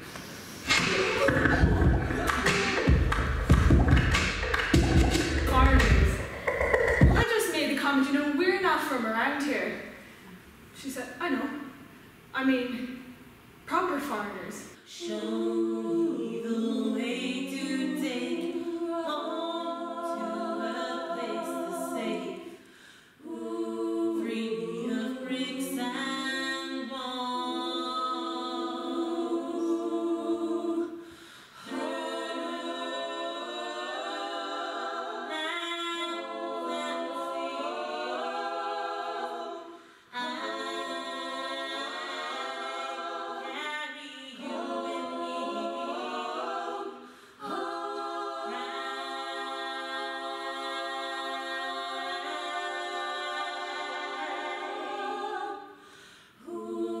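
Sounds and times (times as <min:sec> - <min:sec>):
voices singing in harmony: 0:00.0 - 0:07.6, 0:14.7 - 0:57.0.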